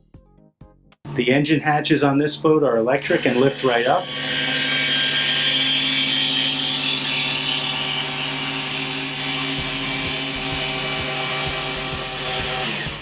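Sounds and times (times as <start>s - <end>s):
electric motor humming: 2.4s - 13.0s.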